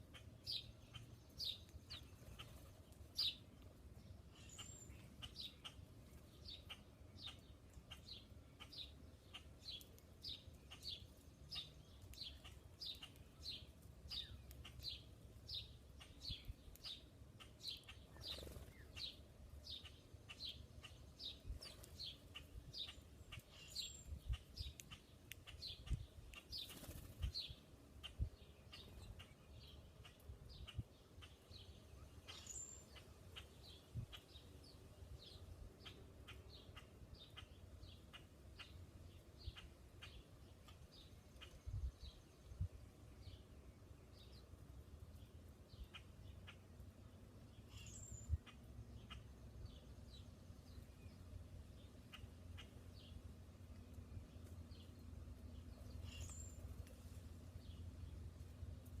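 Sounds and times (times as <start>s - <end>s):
bird chirping: 0.0s - 58.4s.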